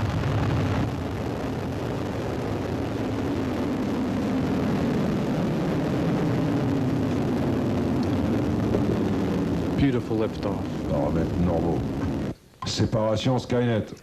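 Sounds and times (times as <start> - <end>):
rocket engines roaring: 0.0 - 12.9.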